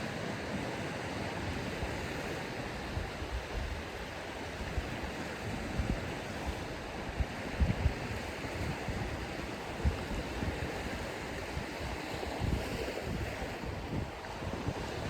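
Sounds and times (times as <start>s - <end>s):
waves breaking on a beach: 0.0s - 15.0s.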